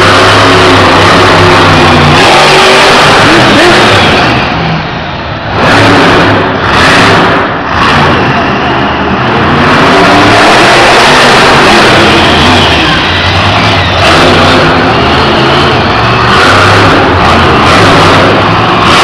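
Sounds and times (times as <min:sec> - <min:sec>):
truck engine revving hard: 0:00.0 - 0:19.0.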